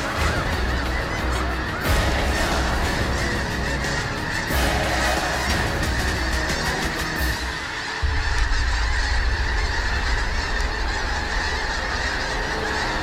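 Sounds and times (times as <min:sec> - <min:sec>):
geese honking in flight: 0:00.0 - 0:13.0.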